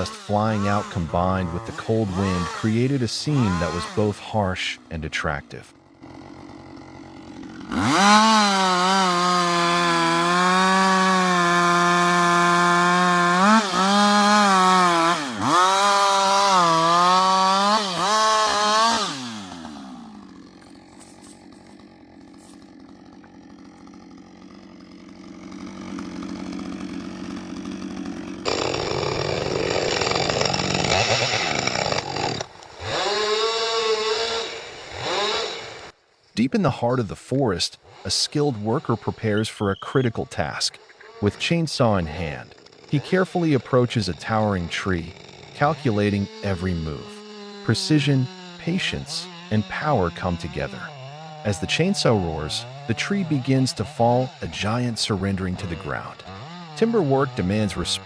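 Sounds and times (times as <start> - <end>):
chainsaw cutting wood: 0.0 - 36.0, 37.4 - 58.0.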